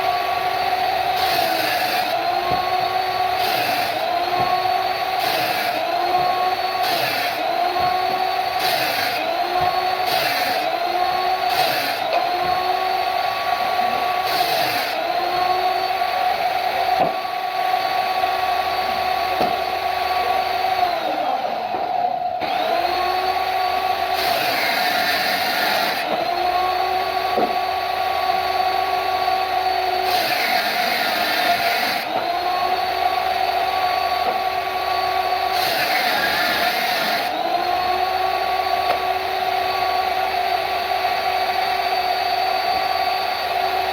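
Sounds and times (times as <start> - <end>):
motor spinning up and winding down: 0.0 - 43.9.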